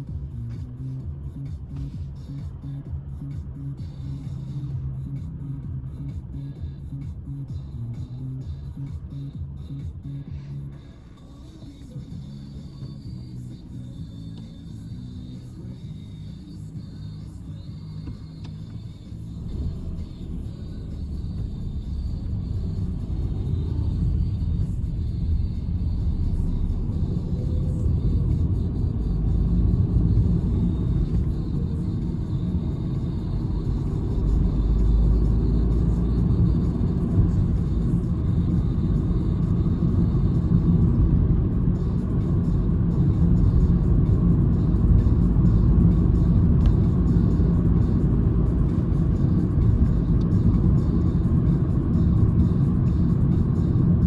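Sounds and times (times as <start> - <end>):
in-cabin engine and tyre rumble: 0.0 - 54.0.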